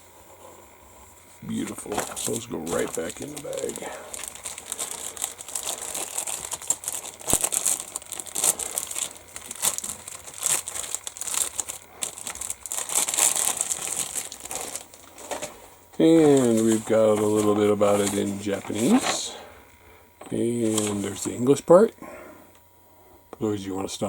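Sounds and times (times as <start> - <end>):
plastic bag crinkling: 1.4 - 21.9.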